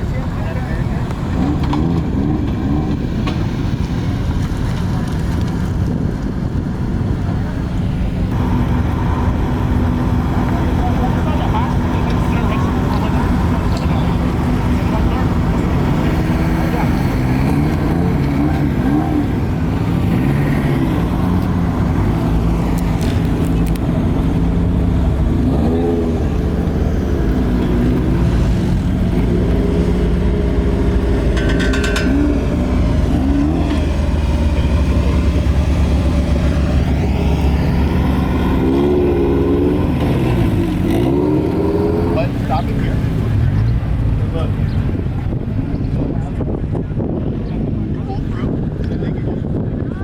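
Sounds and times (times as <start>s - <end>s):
car engine idling: 0.0s - 47.1s.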